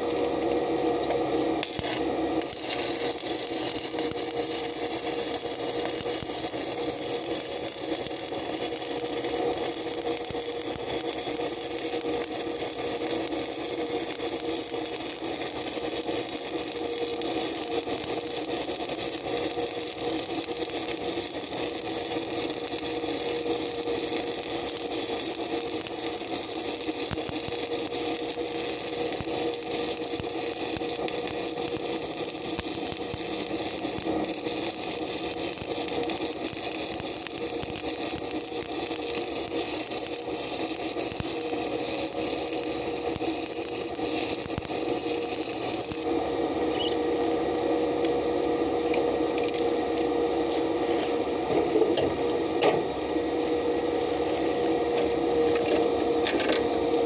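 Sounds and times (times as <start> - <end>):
welding machine hum: 0.0 - 57.0
welding arc crackling: 1.2 - 47.6.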